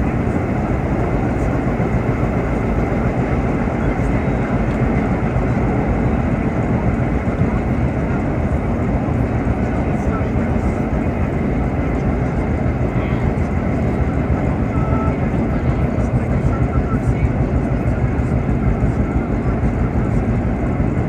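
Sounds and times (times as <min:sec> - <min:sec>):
subway train rumbling on rails: 0:00.0 - 0:21.0.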